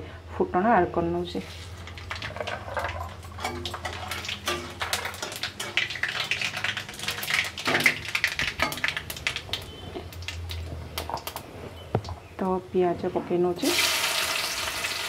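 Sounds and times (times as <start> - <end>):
spices crackling in hot oil: 1.2 - 12.6, 13.5 - 15.0.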